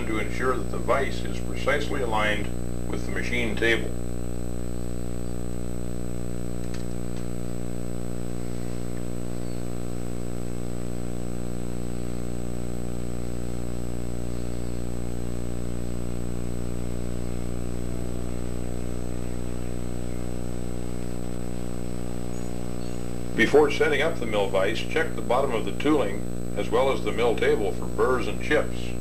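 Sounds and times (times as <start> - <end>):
electrical mains hum: 0.0 - 29.0
faint high whine: 0.0 - 29.0.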